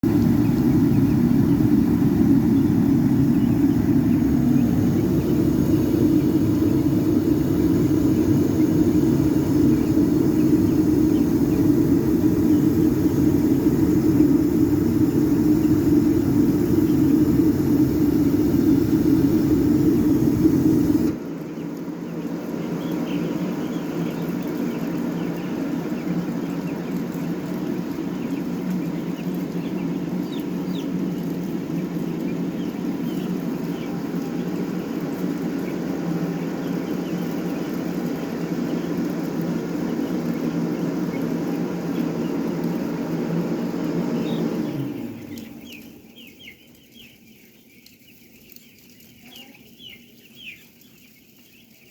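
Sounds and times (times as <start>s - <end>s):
steady background drone: 0.0s - 45.8s
chicks peeping: 0.0s - 51.9s.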